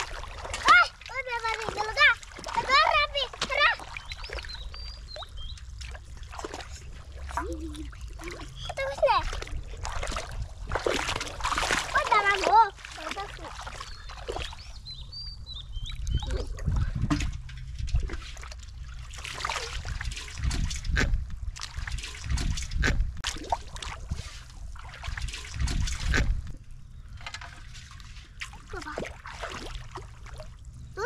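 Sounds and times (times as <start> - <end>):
water splashing and sloshing: 0.0 - 31.0
water trickling: 0.0 - 31.0.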